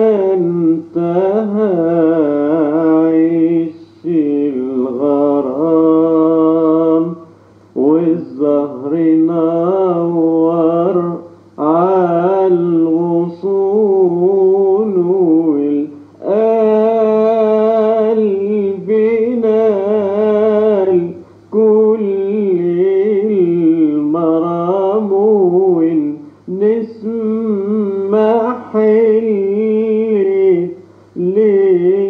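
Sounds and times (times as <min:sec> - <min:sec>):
faint low hum: 0:00.0 - 0:32.0
man singing ornamented phrases: 0:00.0 - 0:32.0.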